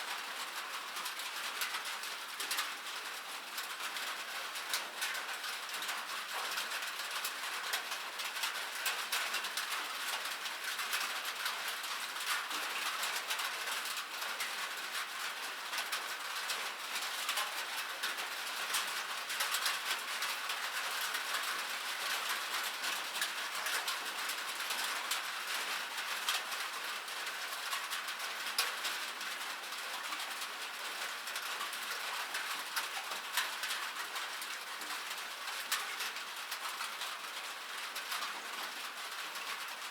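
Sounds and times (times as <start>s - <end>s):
rain falling on metal: 0.0s - 39.9s.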